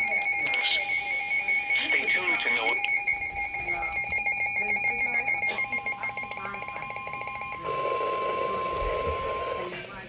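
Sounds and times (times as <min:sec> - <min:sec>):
rapid pulsing alarm: 0:00.0 - 0:09.7
steady warning alarm tone: 0:00.0 - 0:09.7.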